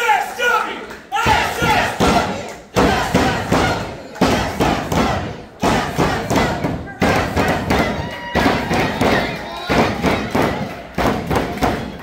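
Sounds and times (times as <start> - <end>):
crowd shouting: 0.0 - 12.0.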